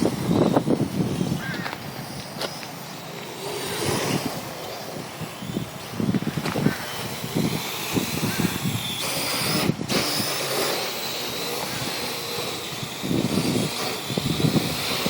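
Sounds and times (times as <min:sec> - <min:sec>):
drone propellers whining: 0:00.0 - 0:15.0
wind buffeting microphone: 0:00.0 - 0:15.0.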